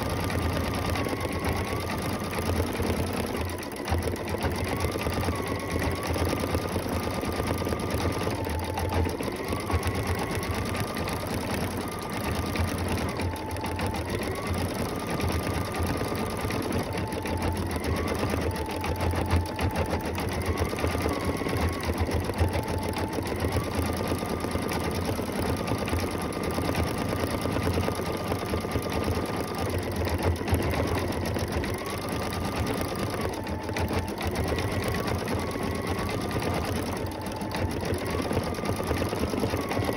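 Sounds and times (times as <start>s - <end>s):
embroidery machine needle rattling: 0.0s - 39.9s
high machine whine: 0.0s - 39.9s.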